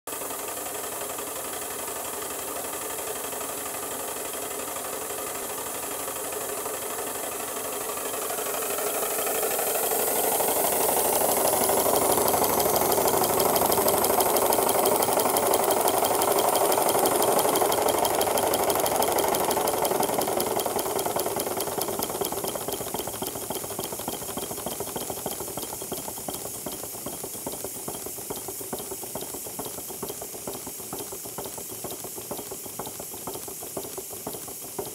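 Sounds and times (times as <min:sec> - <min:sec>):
steam exhaust beats and hiss: 0:00.1 - 0:34.9.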